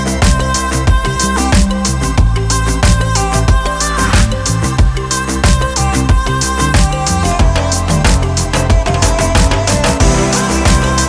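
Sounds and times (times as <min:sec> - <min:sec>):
electronic music with driving beat: 0:00.0 - 0:11.0.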